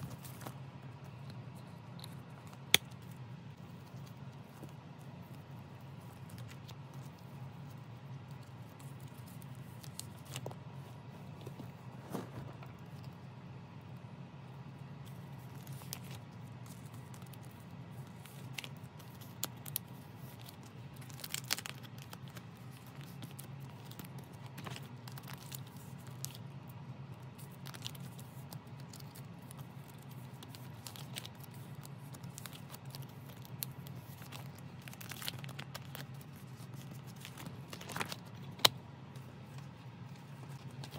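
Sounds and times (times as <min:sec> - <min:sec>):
plastic sleeves crinkling: 0:00.0 - 0:13.2, 0:15.0 - 0:40.9
low steady hum: 0:00.0 - 0:40.9.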